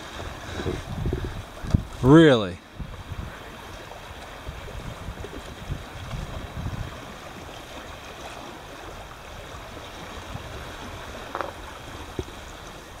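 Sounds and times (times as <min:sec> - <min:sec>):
waves washing among boulders: 0:00.0 - 0:13.0.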